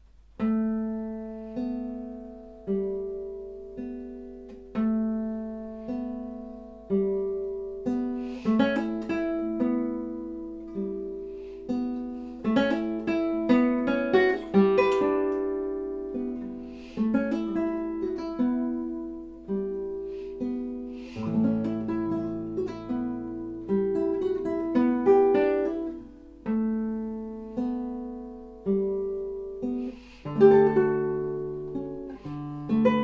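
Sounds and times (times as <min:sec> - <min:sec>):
classical guitar plucked: 0:00.0 - 0:33.0.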